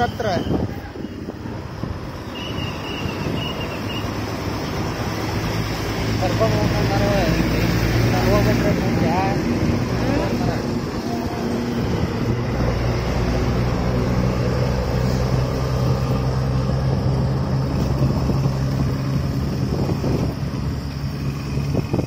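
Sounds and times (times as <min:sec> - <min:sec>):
road noise: 0:00.0 - 0:22.0
vehicle engine droning: 0:00.0 - 0:22.0.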